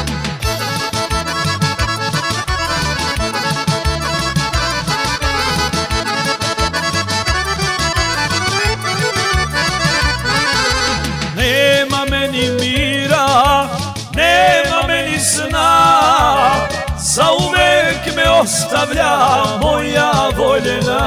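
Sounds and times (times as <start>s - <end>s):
accordion melody: 0.0s - 21.0s
bass line: 0.0s - 21.0s
steady drum beat: 0.0s - 21.0s.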